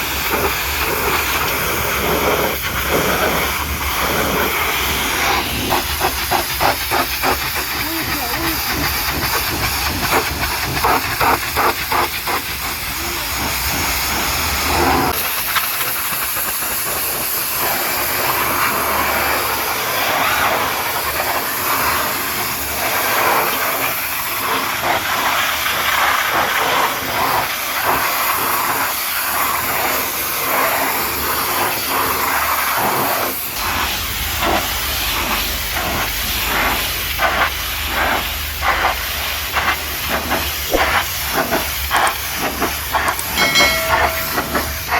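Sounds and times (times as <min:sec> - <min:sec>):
pressure washer spraying: 0:00.0 - 0:44.9.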